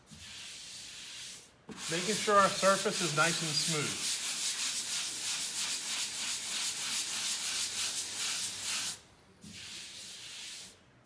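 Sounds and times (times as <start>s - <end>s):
sanding sponge rubbing drywall: 0.0s - 10.8s.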